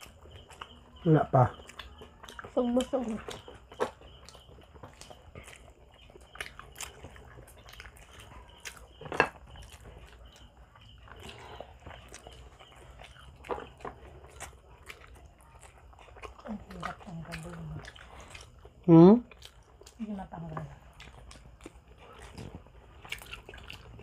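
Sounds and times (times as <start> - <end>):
biting and chewing food: 0.0 - 24.0.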